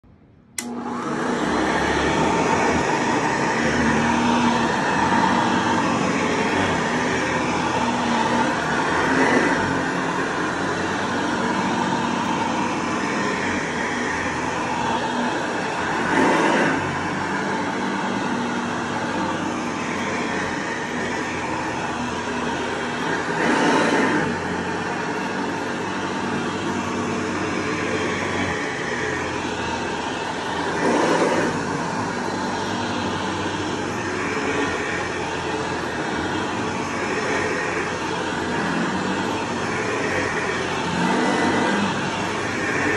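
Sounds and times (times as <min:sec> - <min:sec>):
vacuum cleaner running on carpet: 0:00.6 - 0:42.9.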